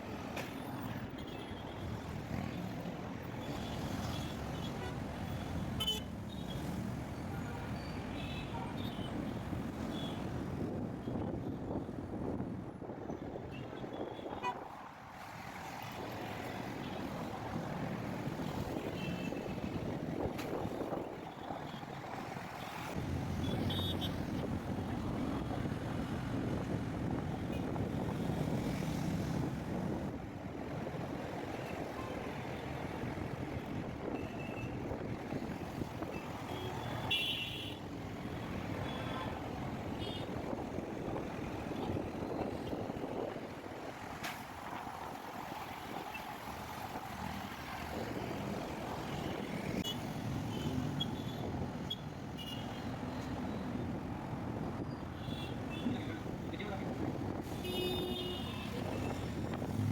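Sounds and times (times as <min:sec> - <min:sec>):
vehicle engines passing: 0:01.8 - 0:08.1, 0:15.0 - 0:59.9.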